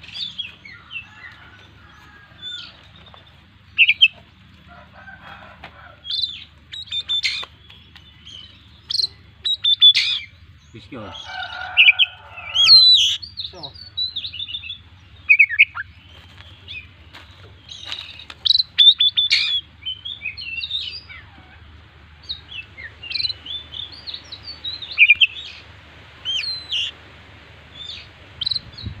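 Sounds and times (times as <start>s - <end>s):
bird singing varied song: 0.0s - 4.5s, 6.0s - 21.3s, 22.2s - 27.0s, 27.7s - 29.0s.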